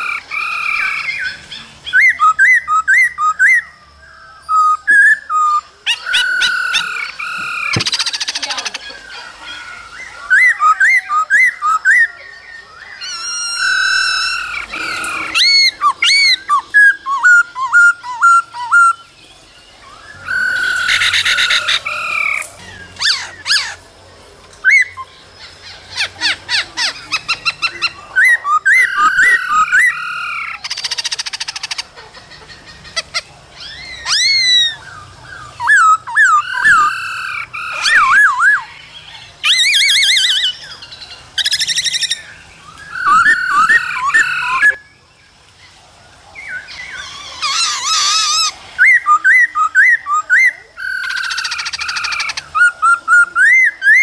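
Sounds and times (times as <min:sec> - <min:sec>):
bird singing whistled phrases: 0:00.0 - 0:09.0, 0:09.6 - 0:23.8, 0:24.6 - 0:25.1, 0:26.2 - 0:31.8, 0:33.6 - 0:38.8, 0:39.4 - 0:44.9, 0:46.4 - 0:54.0
harsh rattling bird chatter: 0:00.0 - 0:54.0.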